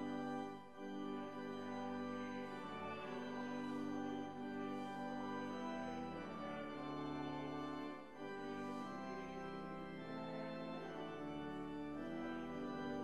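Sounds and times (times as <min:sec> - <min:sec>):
organ playing sustained chords: 0:00.0 - 0:13.0.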